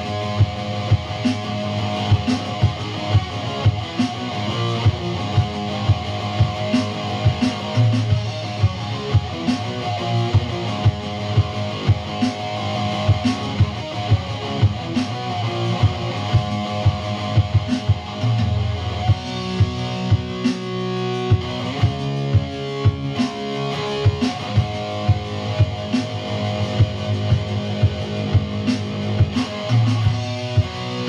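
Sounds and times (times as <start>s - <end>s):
rock music with guitar and drums: 0.0s - 31.0s.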